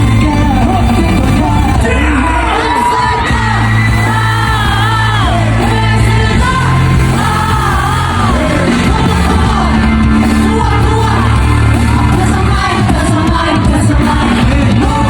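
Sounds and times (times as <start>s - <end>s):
crowd yelling: 0.0s - 15.0s
heavy bass notes: 0.0s - 15.0s
pop song with sung melody: 0.0s - 15.0s.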